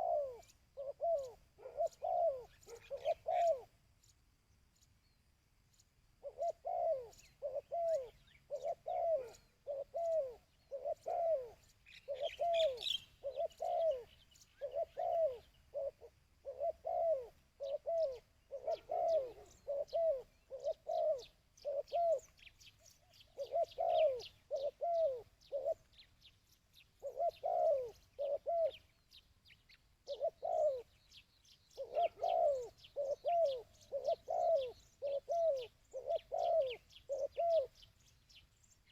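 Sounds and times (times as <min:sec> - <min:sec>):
dove cooing: 0:00.0 - 0:03.8, 0:06.2 - 0:26.3, 0:26.9 - 0:29.1, 0:30.0 - 0:31.1, 0:31.7 - 0:37.9
small birds chirping: 0:00.0 - 0:38.9.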